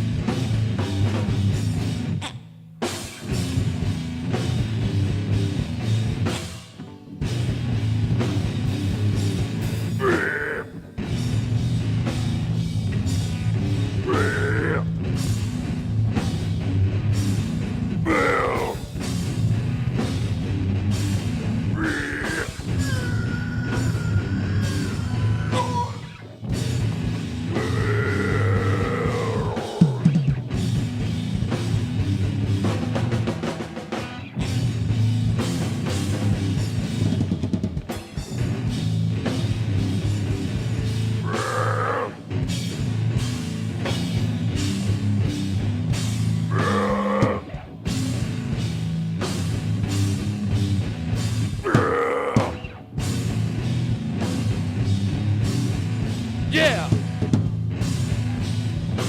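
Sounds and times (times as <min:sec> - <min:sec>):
heavy metal band playing live: 0:00.0 - 0:59.0
rapid drumming on drum kit: 0:02.8 - 0:06.6, 0:07.3 - 0:59.0.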